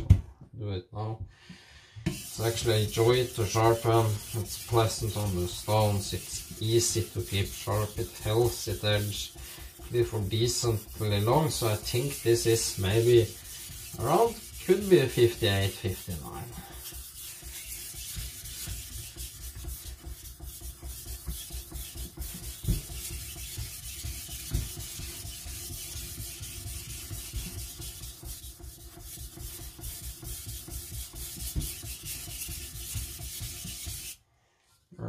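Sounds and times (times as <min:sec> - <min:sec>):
cleaver scraping on whetstone: 0:02.1 - 0:34.2.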